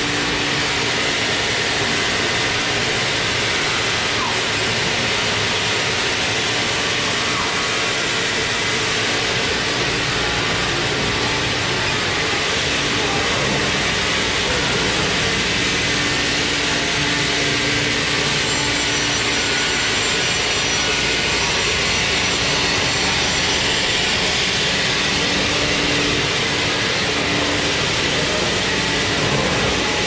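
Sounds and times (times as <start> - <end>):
sawmill machinery running: 0.0 - 30.0.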